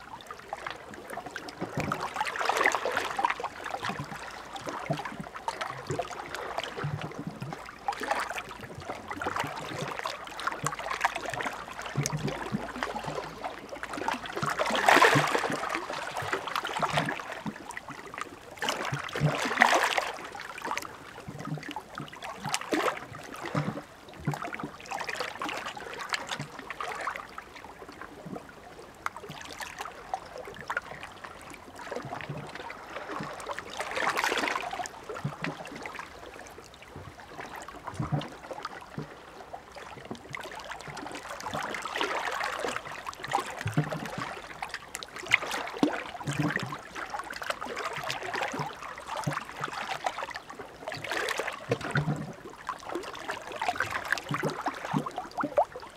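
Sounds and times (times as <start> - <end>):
small waves lapping at shore: 0.0 - 55.9
soft low water thumps: 0.0 - 55.9.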